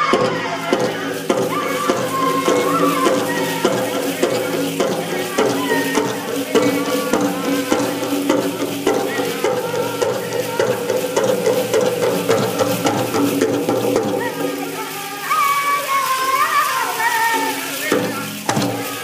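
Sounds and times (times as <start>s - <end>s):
drum group singing: 0.0s - 19.0s
jingle dress cones rattling: 0.0s - 19.0s
steady drumbeat: 0.0s - 19.0s.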